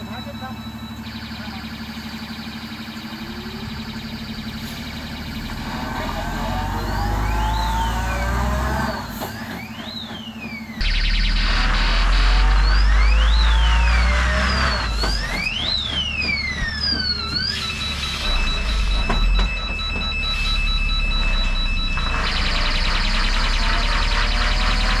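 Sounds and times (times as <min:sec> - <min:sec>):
electronic siren alarm: 0:00.0 - 0:25.0
truck diesel engine rumble: 0:00.0 - 0:25.0.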